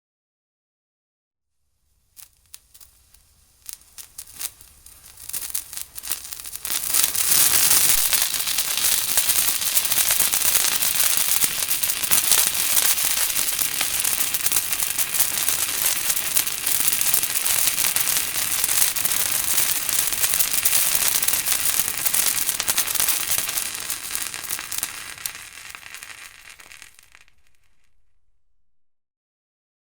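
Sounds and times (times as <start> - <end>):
fireworks crackling: 1.7 - 28.6.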